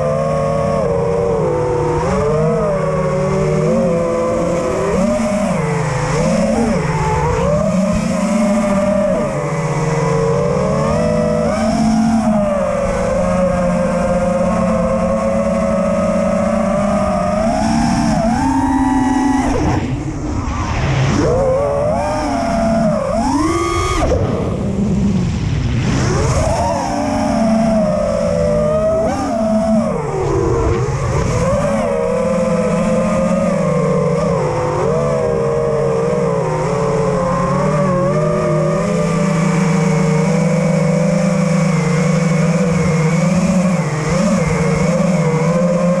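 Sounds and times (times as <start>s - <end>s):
drone motors and propellers whining: 0.0s - 46.0s.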